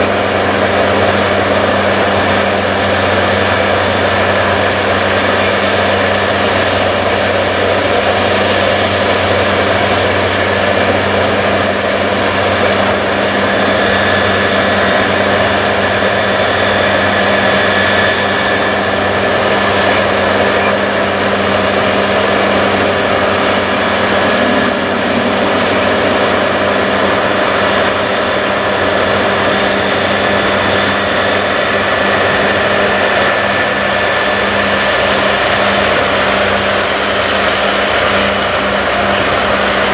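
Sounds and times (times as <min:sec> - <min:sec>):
machinery drone with high whine: 0:00.0 - 0:39.9.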